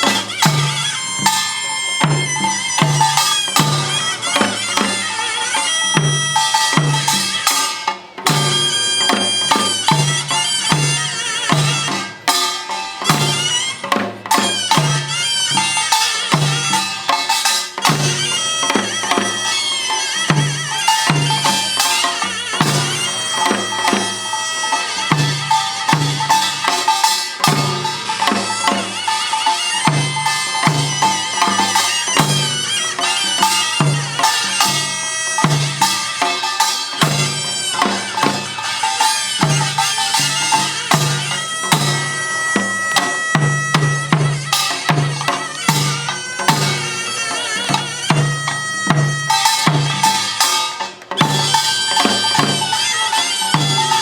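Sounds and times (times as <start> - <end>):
shawm playing nasal melody: 0.0 - 54.0.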